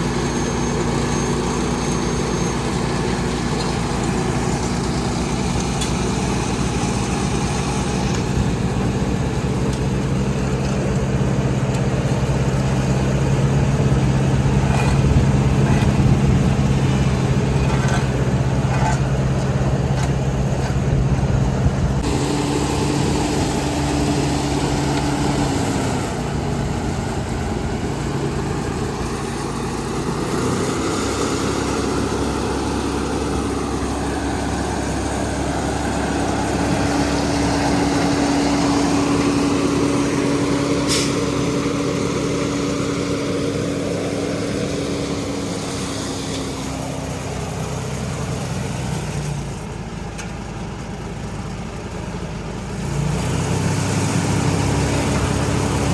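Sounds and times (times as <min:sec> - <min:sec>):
diesel road machinery engine: 0:00.0 - 0:55.9.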